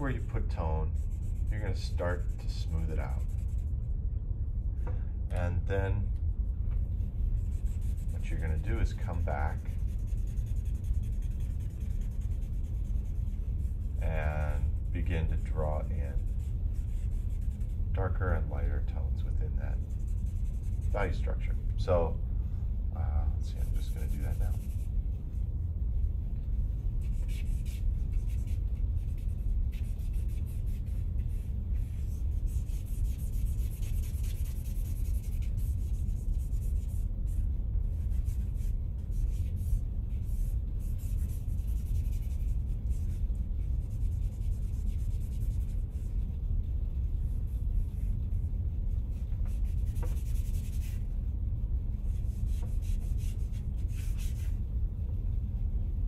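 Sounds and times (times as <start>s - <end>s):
charcoal scratching on paper: 0.1s - 3.8s, 7.3s - 18.6s, 19.7s - 21.5s, 23.5s - 25.1s, 26.4s - 51.1s, 52.0s - 54.6s
low rumble: 1.0s - 56.0s.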